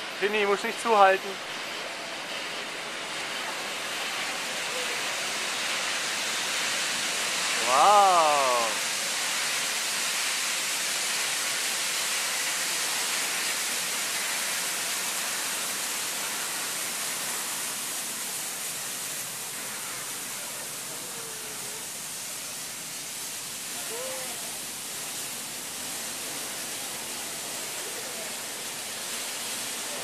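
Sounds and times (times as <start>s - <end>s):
steam hissing from locomotive: 0.0s - 30.0s.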